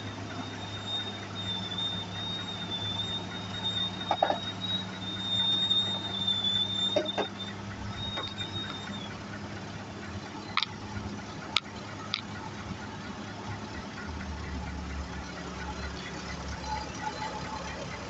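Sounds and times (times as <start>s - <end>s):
diesel engine idling: 0.0s - 18.0s
sharp metallic clicks: 0.0s - 18.0s
thin high-pitched whine: 0.0s - 18.0s.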